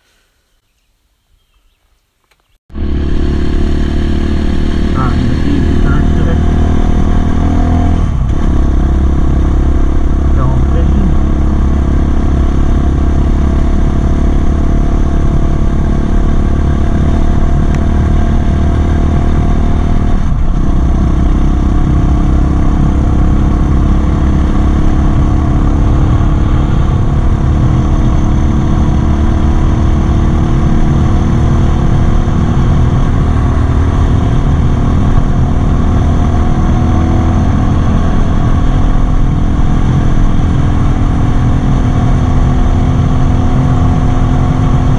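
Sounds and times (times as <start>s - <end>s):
dirt bike engine running: 2.7s - 44.9s.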